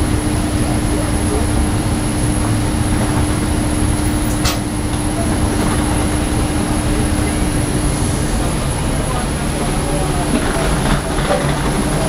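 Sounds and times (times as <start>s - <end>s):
airliner cabin ventilation hum: 0.0s - 12.0s.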